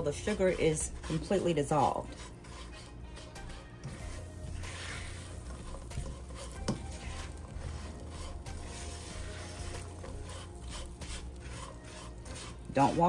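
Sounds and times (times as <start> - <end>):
spatula scraping pecans in pan: 0.0 - 13.0.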